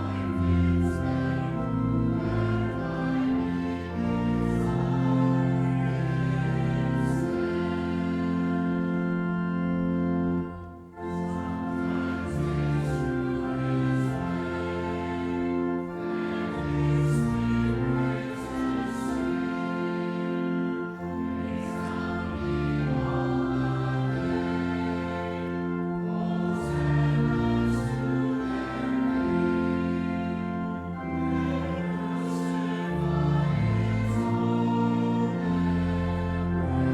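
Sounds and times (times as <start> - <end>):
voices singing a slow hymn: 0.0 - 36.9.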